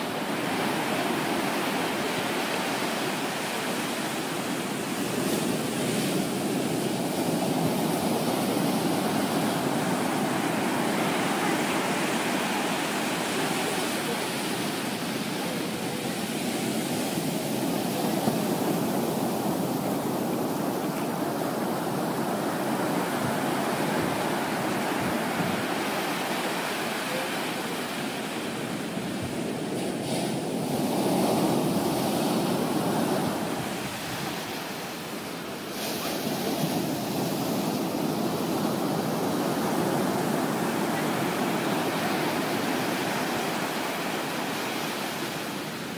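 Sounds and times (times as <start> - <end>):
surf breaking on a beach: 0.0 - 45.9.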